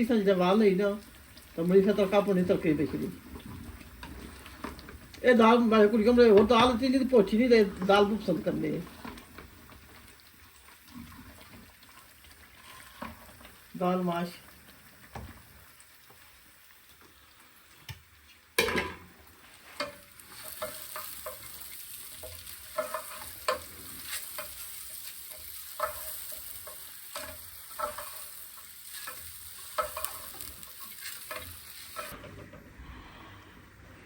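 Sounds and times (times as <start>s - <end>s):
food sizzling in a pan: 0.0s - 32.3s.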